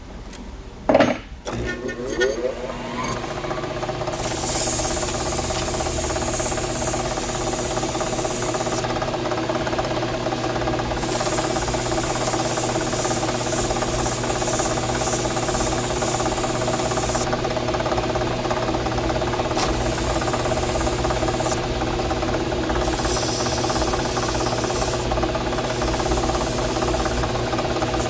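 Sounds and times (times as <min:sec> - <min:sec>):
machine humming: 0:01.4 - 0:28.0.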